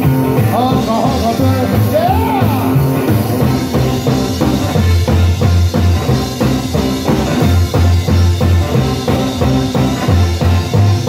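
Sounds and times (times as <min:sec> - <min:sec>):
drum kit: 0:00.0 - 0:11.0
electric guitar: 0:00.0 - 0:11.0
upright bass: 0:00.0 - 0:11.0.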